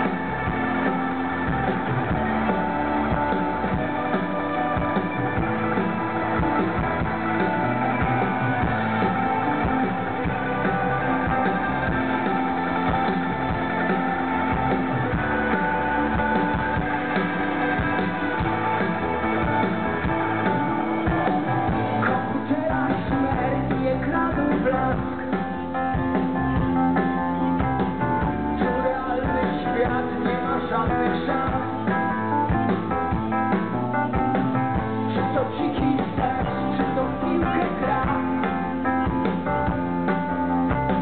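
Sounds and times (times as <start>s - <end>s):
electric guitars: 0.0s - 41.0s
rock band playing live: 0.0s - 41.0s.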